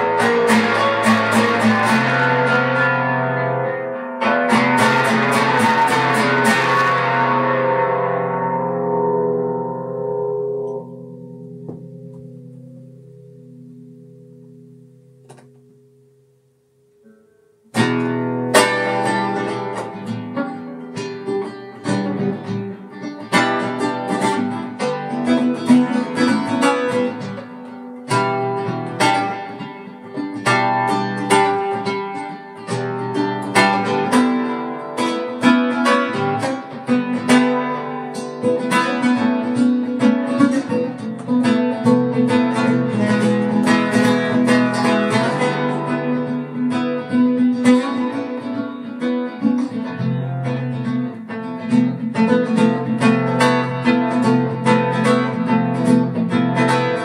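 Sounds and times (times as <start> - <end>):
solo guitar playing: 0.0 - 57.0.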